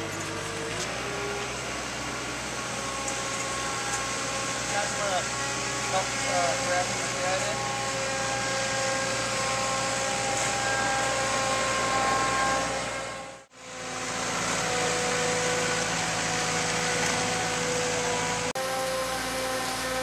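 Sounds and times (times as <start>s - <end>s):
loader engine running under load: 0.0s - 20.0s
whining tones: 0.0s - 20.0s.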